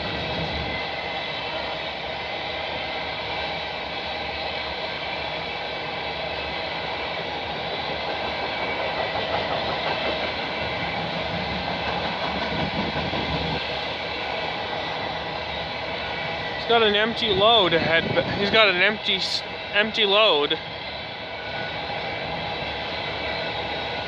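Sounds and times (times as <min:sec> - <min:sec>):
steel train wheels on rails: 0:00.0 - 0:24.0.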